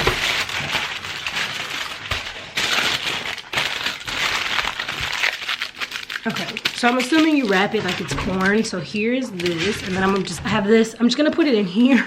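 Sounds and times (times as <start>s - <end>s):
aluminum foil crinkling: 0.0s - 11.6s.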